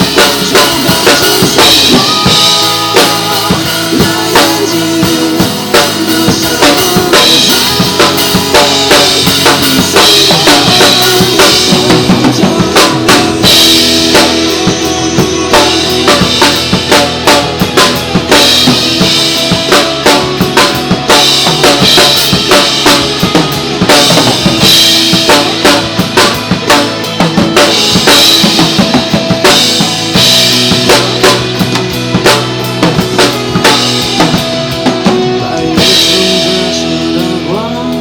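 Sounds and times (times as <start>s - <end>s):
bass drum and snare hits: 0.0s - 35.2s
pop backing track: 0.0s - 38.0s.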